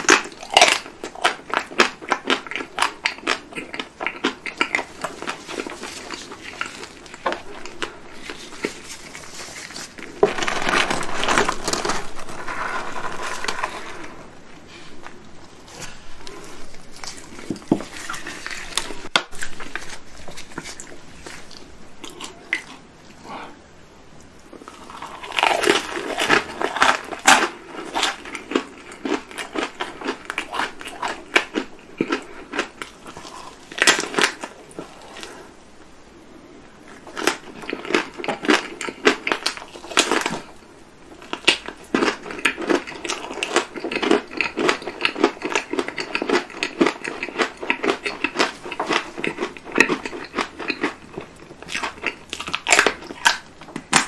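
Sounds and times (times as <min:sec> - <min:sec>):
crisp crackling bites and chewing: 0:00.0 - 0:14.2, 0:15.0 - 0:22.8, 0:24.6 - 0:35.4, 0:41.2 - 0:54.0.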